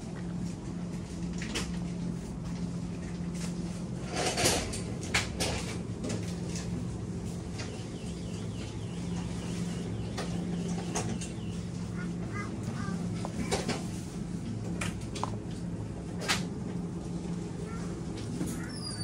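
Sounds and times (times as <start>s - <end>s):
refrigerator hum: 0.0s - 19.0s.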